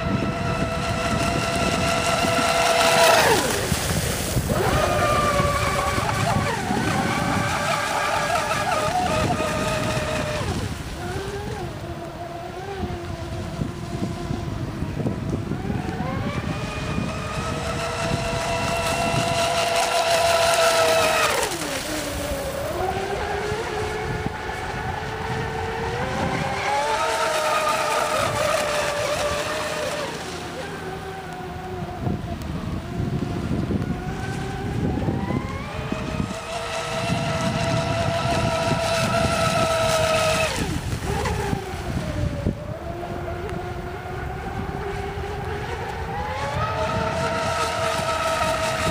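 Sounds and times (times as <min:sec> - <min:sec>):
rc speedboat motor whining: 0:00.0 - 0:48.9.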